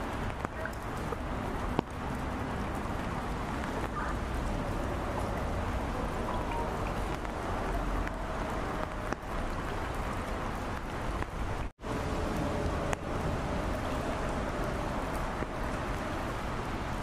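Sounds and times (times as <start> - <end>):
rain on standing water: 0.0 - 17.0.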